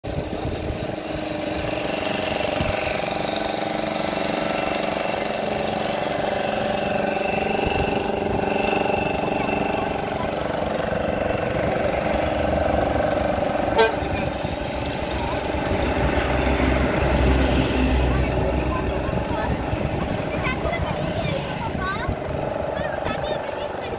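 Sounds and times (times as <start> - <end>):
boat engines droning: 0.0 - 23.9.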